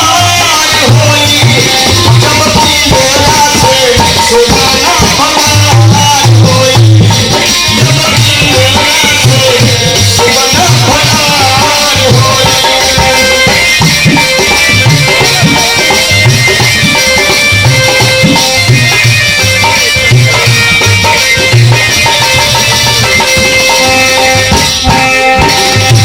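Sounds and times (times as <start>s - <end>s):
instrumental dance music: 0.0s - 26.0s.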